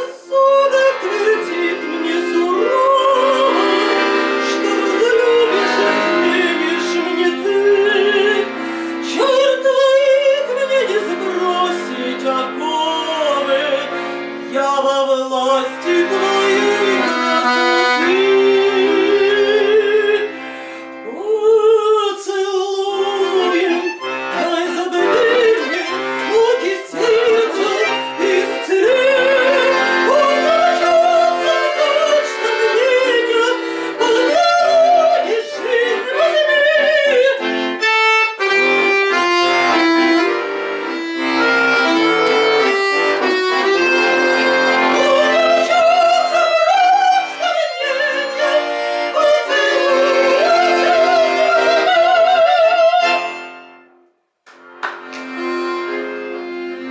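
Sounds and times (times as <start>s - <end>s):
person singing with vibrato: 0.0s - 54.0s
instrumental accompaniment: 0.0s - 56.9s.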